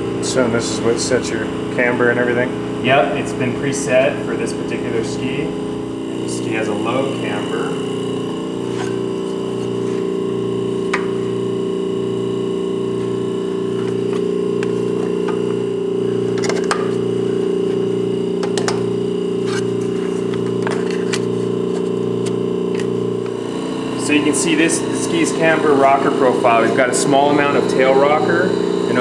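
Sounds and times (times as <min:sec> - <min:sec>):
vacuum pump humming and throbbing: 0:00.0 - 0:29.0.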